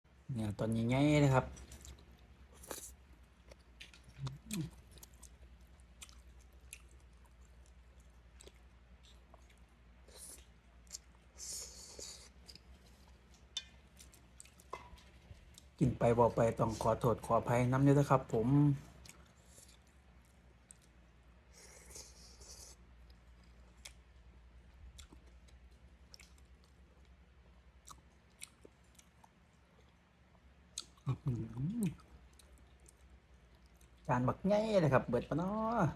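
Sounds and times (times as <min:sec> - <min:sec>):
faint chewing: 0:01.4 - 0:17.4, 0:18.0 - 0:34.1.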